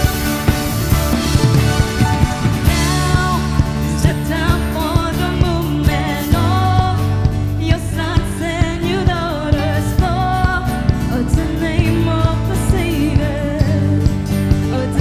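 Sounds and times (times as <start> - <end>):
drum hits: 0.0 - 14.7
worship band playing: 0.0 - 15.0.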